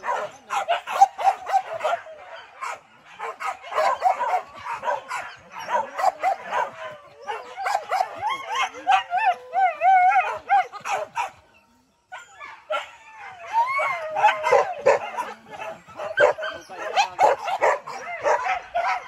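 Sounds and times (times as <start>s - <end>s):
dogs barking and yelping: 0.0s - 19.0s.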